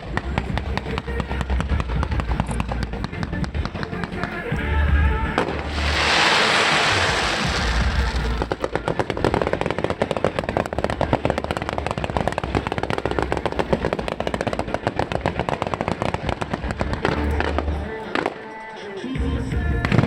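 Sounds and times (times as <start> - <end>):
fireworks crackling: 0.0 - 19.2.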